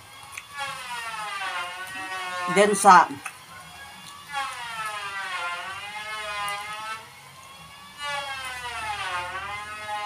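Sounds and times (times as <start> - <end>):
wailing siren-like tone: 0.0 - 10.0.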